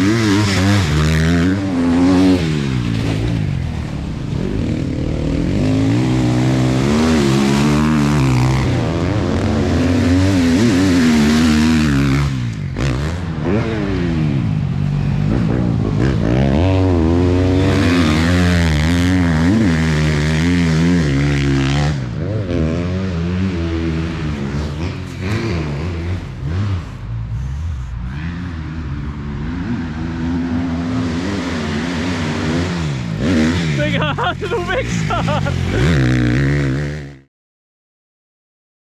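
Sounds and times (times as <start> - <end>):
motocross bike engines revving: 0.0 - 37.3.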